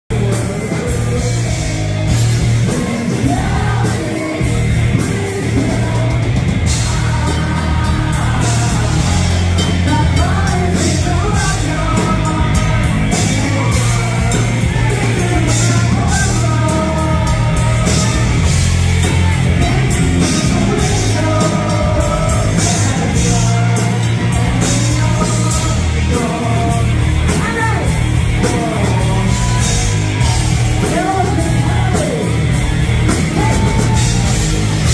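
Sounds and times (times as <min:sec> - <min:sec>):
man and woman singing: 0:00.1 - 0:32.3
rock band playing loud: 0:00.1 - 0:34.9.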